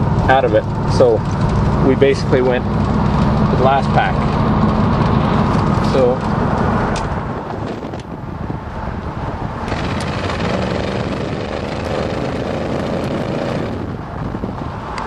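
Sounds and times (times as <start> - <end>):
engine exhaust running: 0.0 - 15.0.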